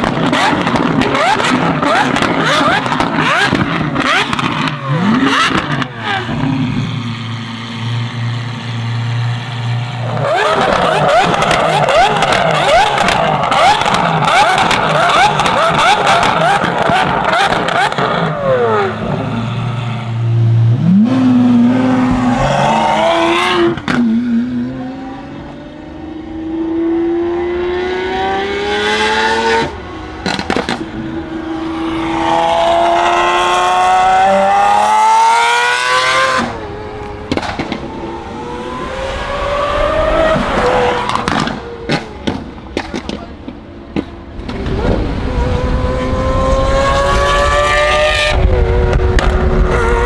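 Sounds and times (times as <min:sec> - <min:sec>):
sports car accelerating hard: 0:00.0 - 0:50.0.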